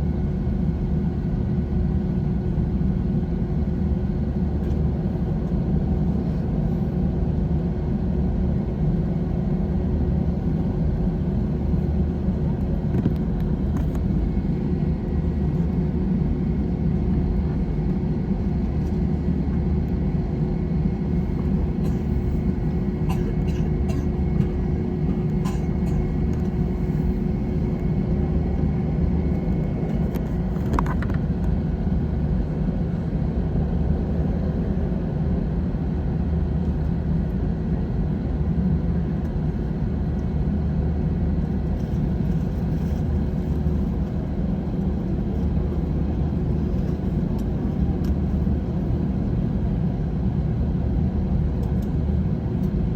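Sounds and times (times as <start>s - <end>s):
aircraft cabin rumble: 0.0s - 52.9s.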